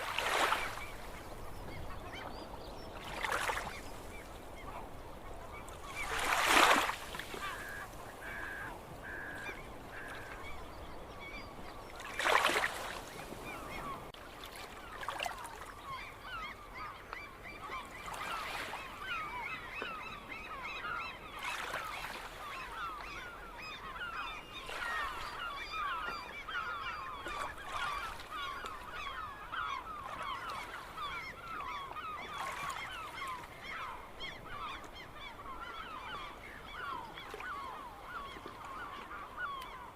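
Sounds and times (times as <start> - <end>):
flock of gulls calling: 0.0 - 39.9.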